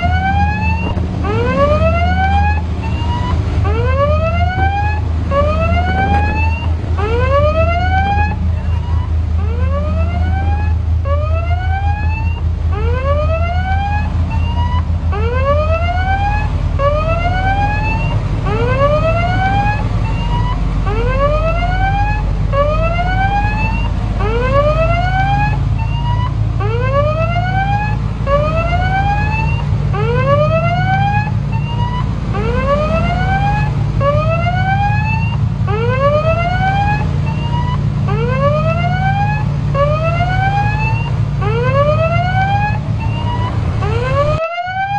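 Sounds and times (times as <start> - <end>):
electronic siren whooping: 0.0 - 44.9
ship rumble: 0.0 - 44.9.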